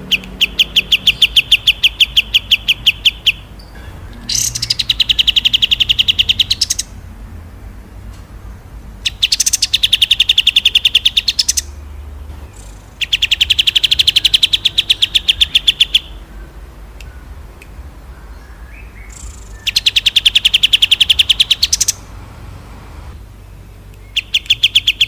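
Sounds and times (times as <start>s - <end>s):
songbird trilling: 0.0s - 7.0s, 9.0s - 22.1s, 23.5s - 25.0s.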